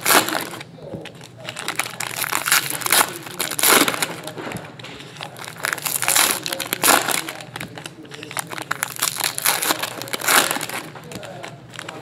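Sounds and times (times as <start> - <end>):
foil wrappers crinkling: 0.0 - 12.0.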